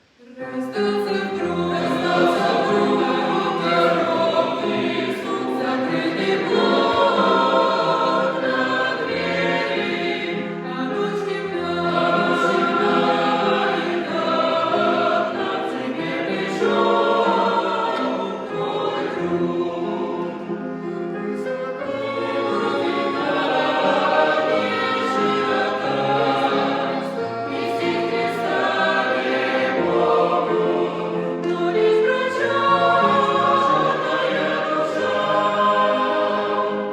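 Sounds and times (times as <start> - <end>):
choir singing: 0.0 - 36.9.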